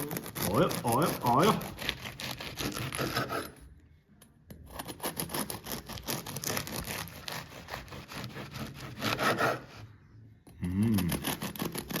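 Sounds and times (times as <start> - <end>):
knife slicing crusty bread: 0.0 - 3.6, 4.6 - 9.9, 10.9 - 12.0.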